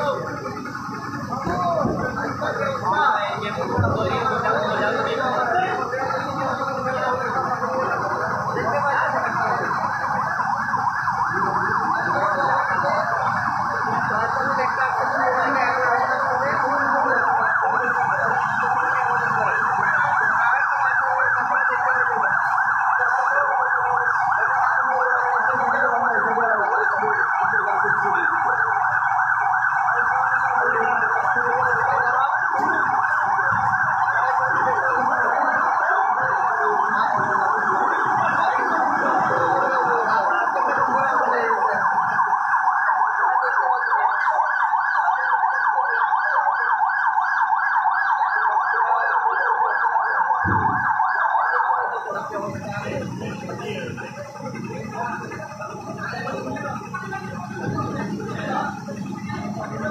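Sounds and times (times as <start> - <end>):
fire engine siren warbling: 0.0 - 59.9.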